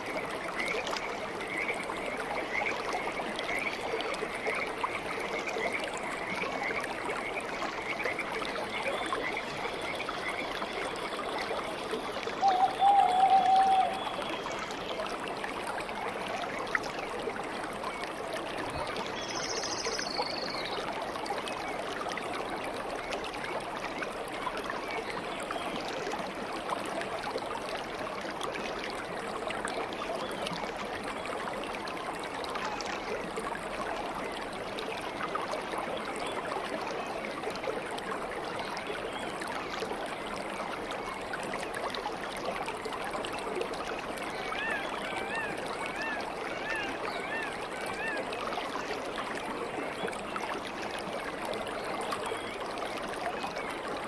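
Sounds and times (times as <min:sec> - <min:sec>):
water babbling: 0:00.0 - 0:54.0.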